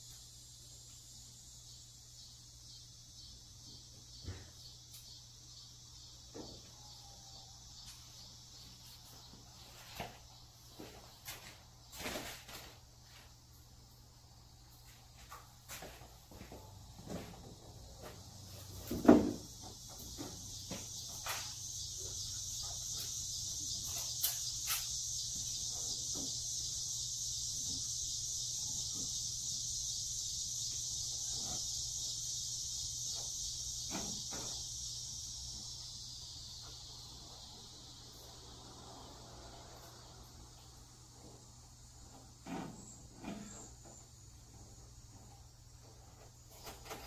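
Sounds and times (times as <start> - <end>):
high insect buzz: 0.0 - 47.0.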